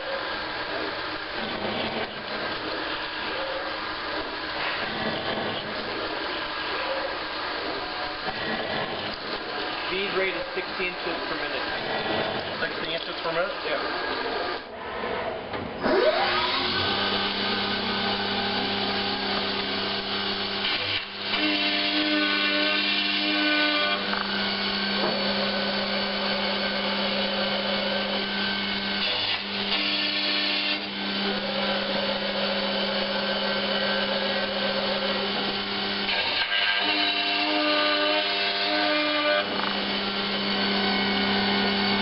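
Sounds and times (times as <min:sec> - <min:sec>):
milling machine cutting metal: 0:00.0 - 0:14.8, 0:15.8 - 0:42.0
spindle hum and cutter whine: 0:00.0 - 0:42.0.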